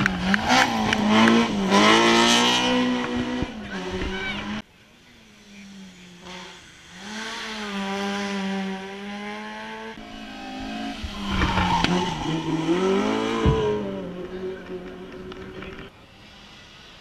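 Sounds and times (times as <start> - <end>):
race car engine approaching: 0.0 - 17.0.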